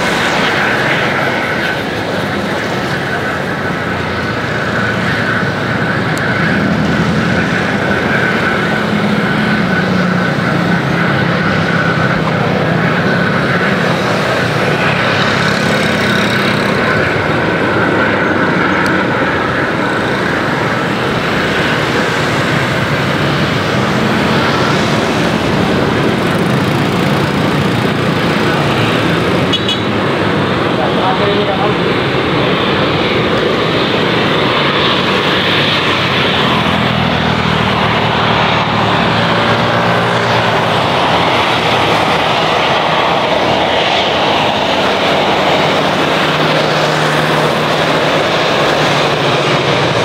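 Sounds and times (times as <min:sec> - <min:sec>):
jet airliner engines on approach: 0:00.0 - 0:50.0.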